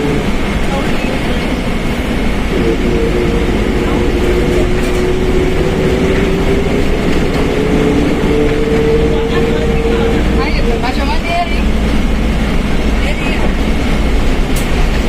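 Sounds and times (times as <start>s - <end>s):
bus differential whining: 0.0s - 15.0s
bus engine and road noise: 0.0s - 15.0s.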